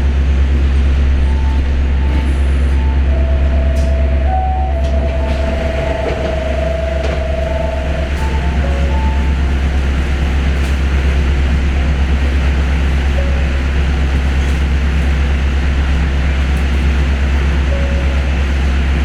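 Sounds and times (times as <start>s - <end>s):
train interior rumble and hiss: 0.0s - 19.0s.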